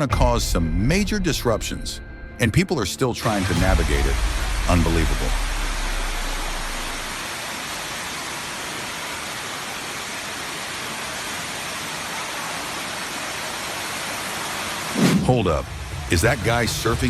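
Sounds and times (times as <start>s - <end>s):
rushing water: 3.2s - 17.0s.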